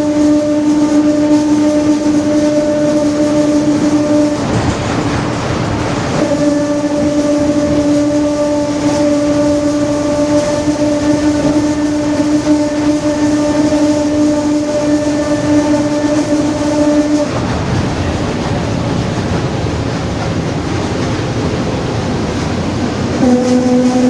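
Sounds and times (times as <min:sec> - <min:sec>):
bus differential droning: 0:00.0 - 0:24.0.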